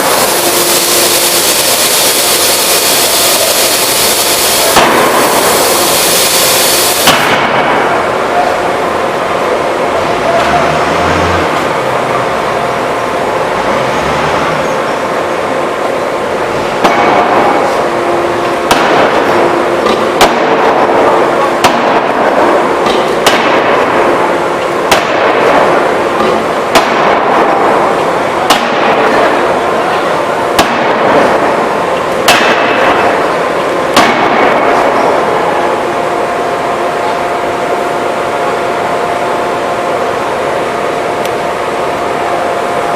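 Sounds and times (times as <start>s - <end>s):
forging hammer blows: 0.0s - 39.6s
loud mechanical hum: 0.0s - 42.9s.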